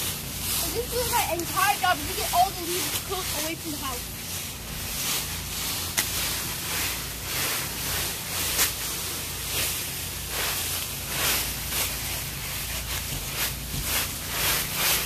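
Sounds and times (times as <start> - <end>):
rake scraping through dry leaves: 0.0 - 15.0.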